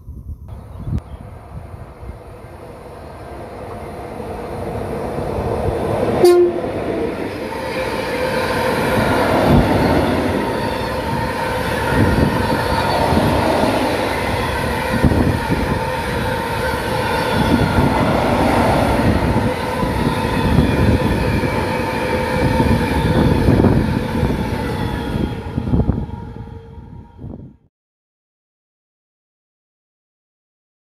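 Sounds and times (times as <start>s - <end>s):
train wheels rumbling on rail: 0.6s - 27.5s.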